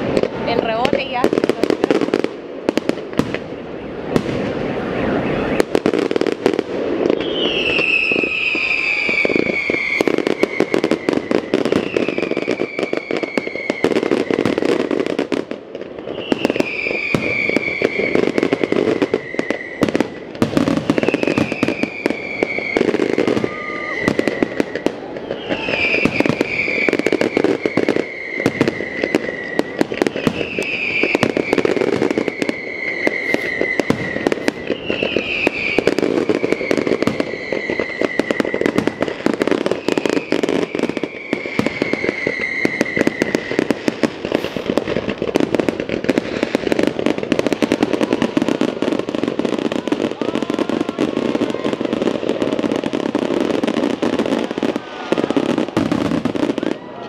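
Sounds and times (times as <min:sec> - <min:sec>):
falling firework whistle: 0:00.0 - 0:57.0
fireworks bangs and crackles: 0:00.0 - 0:57.0.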